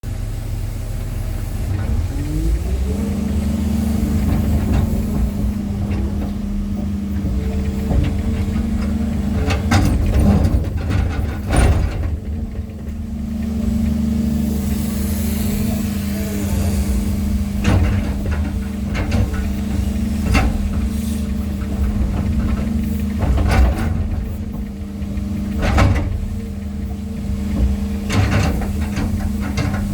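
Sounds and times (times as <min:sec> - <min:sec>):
excavator diesel engine: 0:00.0 - 0:29.9.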